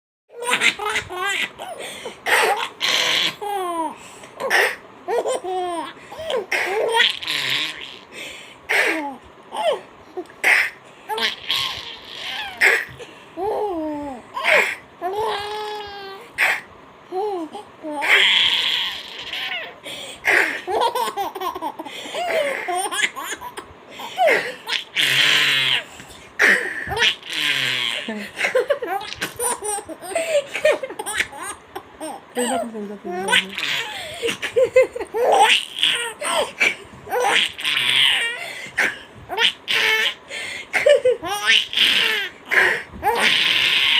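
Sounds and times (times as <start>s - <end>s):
baby laughing: 0.3s - 8.1s, 8.7s - 43.9s.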